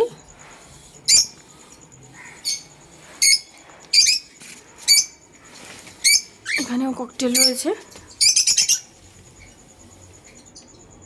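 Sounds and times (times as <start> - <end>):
birds shrill chirping: 0.0 - 11.0.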